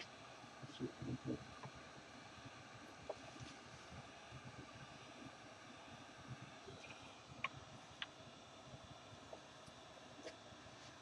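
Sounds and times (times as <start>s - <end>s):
room hiss: 0.0s - 11.0s.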